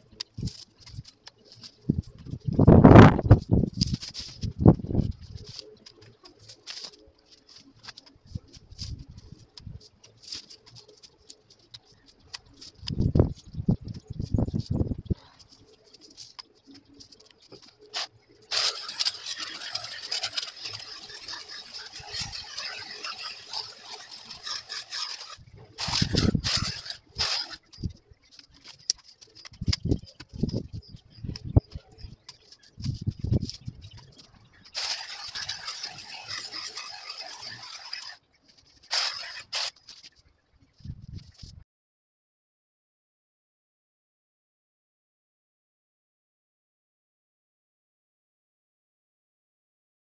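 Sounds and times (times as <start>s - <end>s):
branches crackling and rustling: 0.0s - 41.6s.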